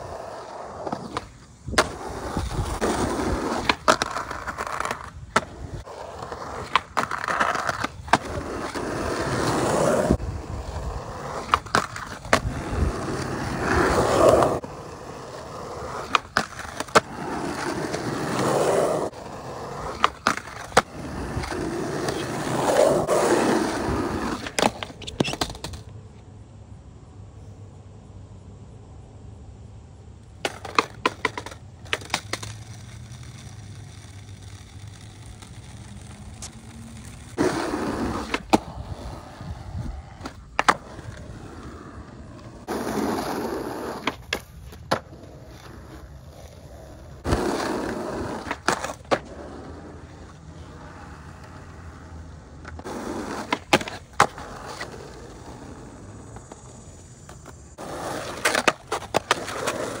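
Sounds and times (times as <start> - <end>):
skateboard clacking: 0.0 - 25.9, 30.3 - 60.0
skateboard wheels rolling on concrete: 0.0 - 60.0.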